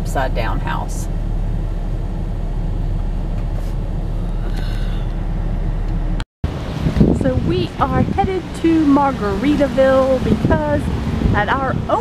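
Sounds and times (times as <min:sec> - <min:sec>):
car interior engine rumble: 0:00.0 - 0:12.0.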